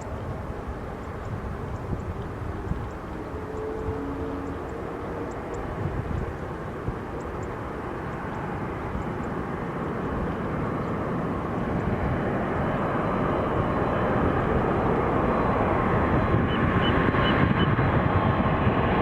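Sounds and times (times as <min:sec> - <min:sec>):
faint jet whine: 0:00.0 - 0:19.0
jet engine rumble and hiss: 0:00.0 - 0:19.0.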